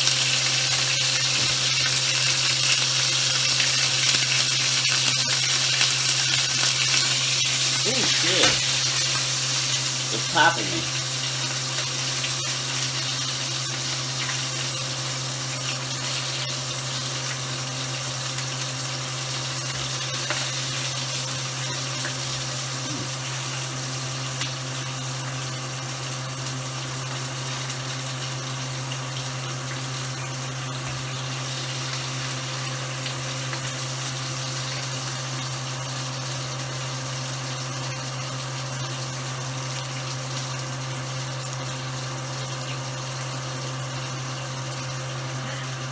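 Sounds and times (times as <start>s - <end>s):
hot oil sizzling in a frying pan: 0.0s - 45.9s.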